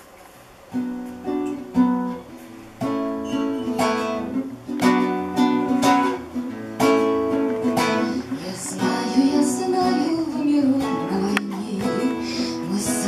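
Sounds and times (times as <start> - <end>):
acoustic guitar strummed chords: 0.6 - 13.0.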